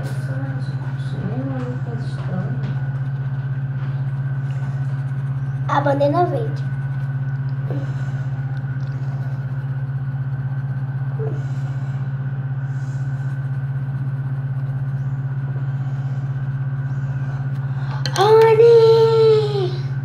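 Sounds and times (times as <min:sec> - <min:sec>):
low fluttering hum: 0:00.0 - 0:20.0.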